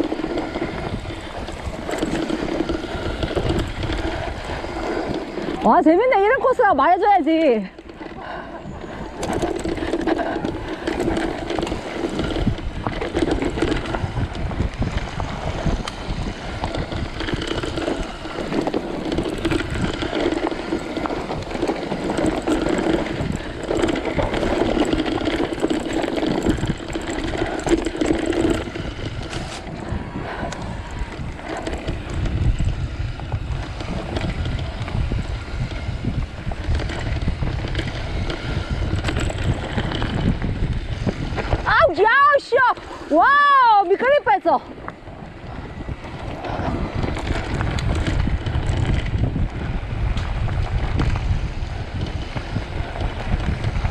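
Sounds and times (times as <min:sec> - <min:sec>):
bike tyre and frame noise: 0:00.0 - 0:53.9
wind buffeting microphone: 0:00.0 - 0:53.9.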